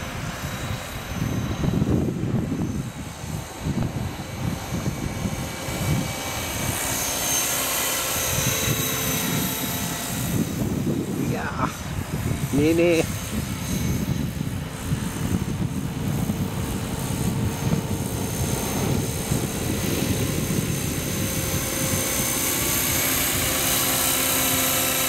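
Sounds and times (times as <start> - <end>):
high-pitched whine: 0.0 - 25.0
model helicopter rotor drone: 0.0 - 25.0.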